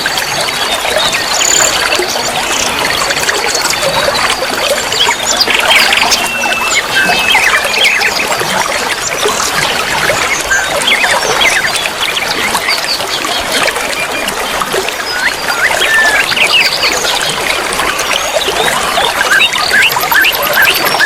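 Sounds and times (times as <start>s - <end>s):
running water trickling: 0.0s - 21.0s
songbirds chirping and twittering: 0.0s - 21.0s.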